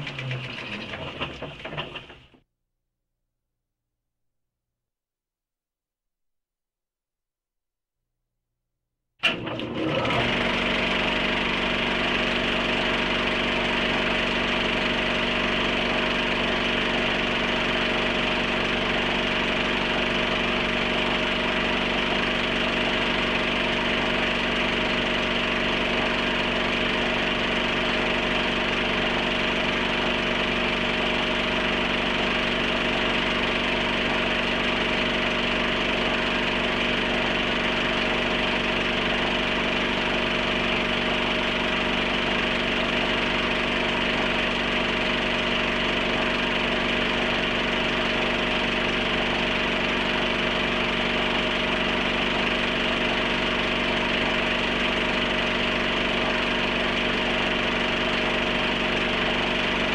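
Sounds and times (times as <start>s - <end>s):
film projector whirring: 0.0s - 2.4s, 9.2s - 59.9s.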